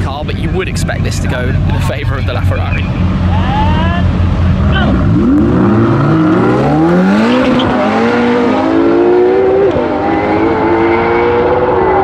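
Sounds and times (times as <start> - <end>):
car engines accelerating hard: 0.0 - 12.0.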